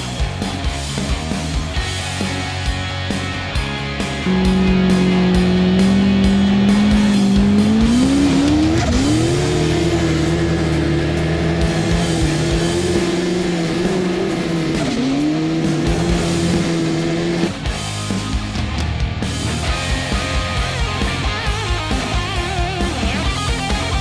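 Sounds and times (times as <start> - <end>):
snowmobile engine running hard: 0.0 - 24.0.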